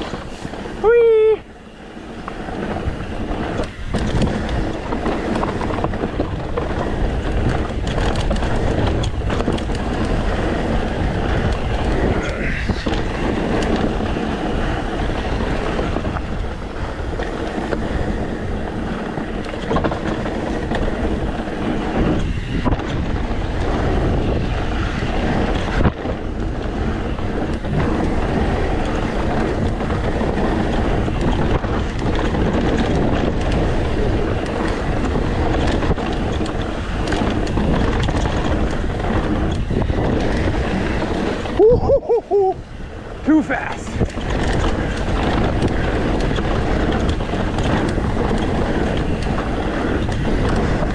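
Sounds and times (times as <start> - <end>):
bike rattling: 0.0 - 50.9
bike tyres rumbling over rocks: 0.0 - 50.9
wind on microphone: 0.0 - 50.9.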